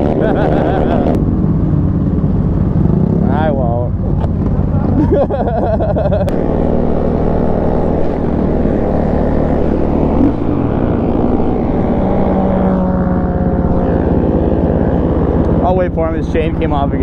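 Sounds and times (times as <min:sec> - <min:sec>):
dirt bike engine: 0:00.0 - 0:17.0.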